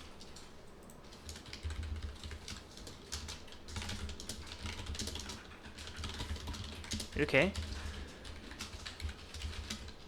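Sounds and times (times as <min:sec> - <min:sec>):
typing on computer keyboard: 0:00.0 - 0:10.0.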